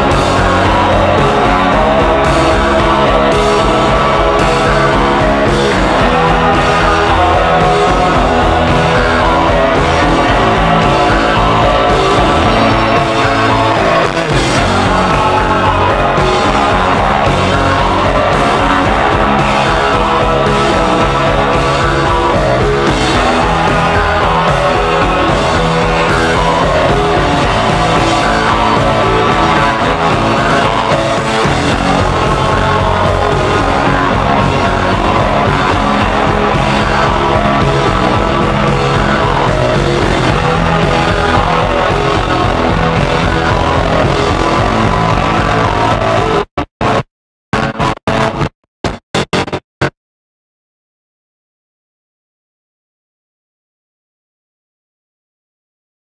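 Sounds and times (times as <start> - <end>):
rock band playing: 0.0 - 47.0.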